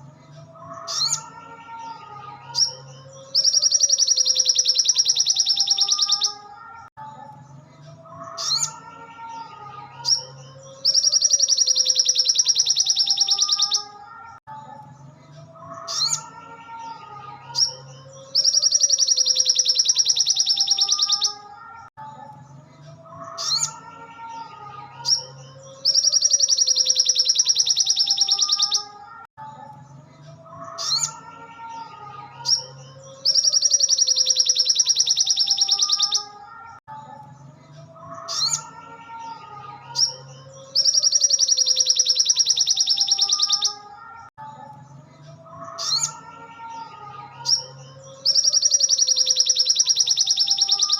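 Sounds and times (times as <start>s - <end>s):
bird chirps and warbling: 0.0s - 50.9s.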